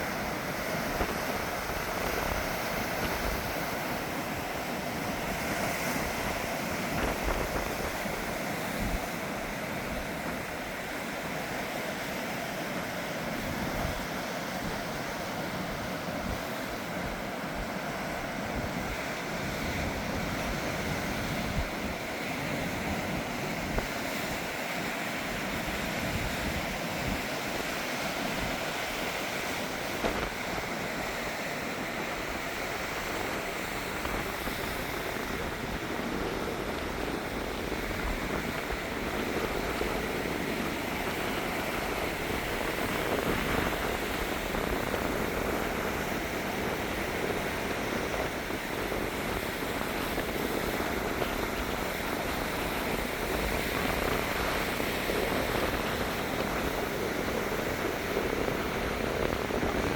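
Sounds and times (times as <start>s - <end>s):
sea waves washing onto beach: 0.0s - 59.9s.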